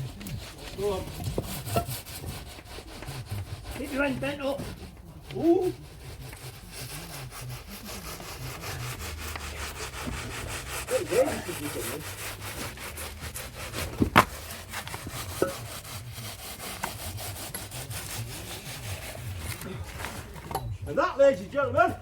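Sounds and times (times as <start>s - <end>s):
plastic strip scraping wet concrete: 0.0s - 20.5s.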